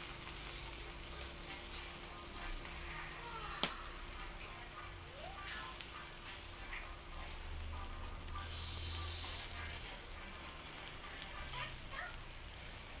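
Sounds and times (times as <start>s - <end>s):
charcoal crackles: 0.0s - 13.0s
meat sizzling on a grill: 0.0s - 13.0s.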